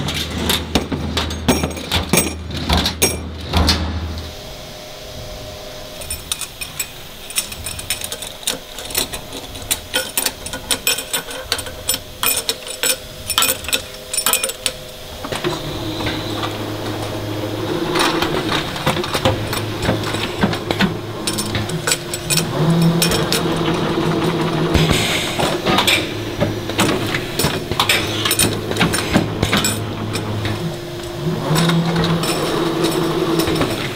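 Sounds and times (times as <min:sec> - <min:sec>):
machine spindles humming: 0:00.0 - 0:33.9
metal plates clinking: 0:06.0 - 0:33.9.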